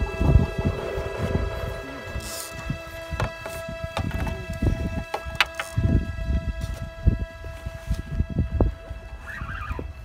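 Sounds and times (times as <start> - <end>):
background music with held tones: 0.0 - 10.0
wind buffeting microphone: 0.0 - 10.0.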